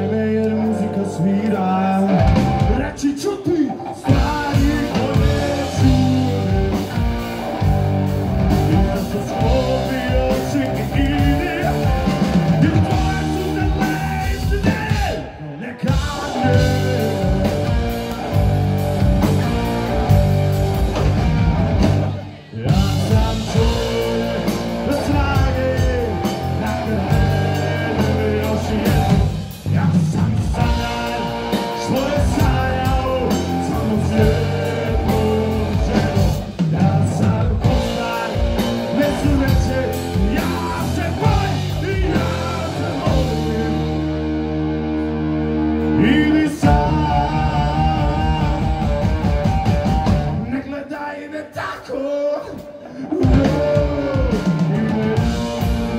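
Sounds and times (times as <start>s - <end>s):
man singing lead vocal: 0.0s - 7.7s, 8.4s - 18.3s, 22.1s - 44.3s, 45.8s - 55.9s
rock band playing: 0.0s - 55.9s.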